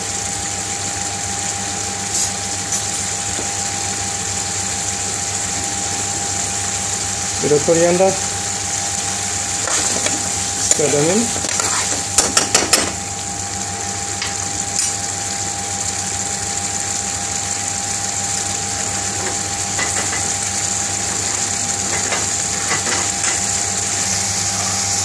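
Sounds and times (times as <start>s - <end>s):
curry bubbling and sizzling in a pan: 0.0s - 25.0s.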